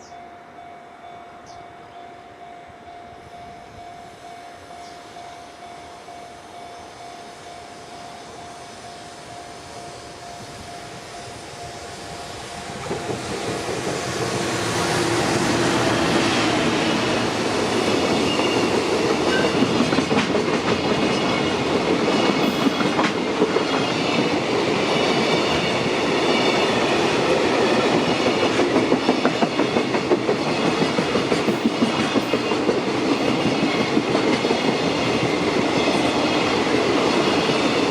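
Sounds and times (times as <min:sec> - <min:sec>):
freight train rumbling past: 0:00.0 - 0:37.9.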